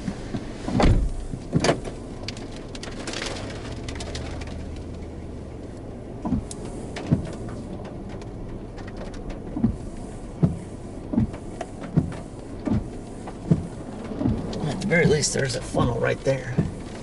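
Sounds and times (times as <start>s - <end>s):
low vehicle hum: 0.0s - 17.0s.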